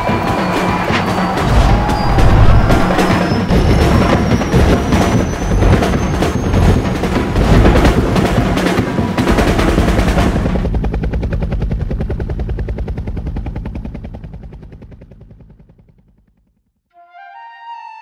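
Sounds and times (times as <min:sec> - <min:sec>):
helicopter rotor chop: 0:00.0 - 0:16.6.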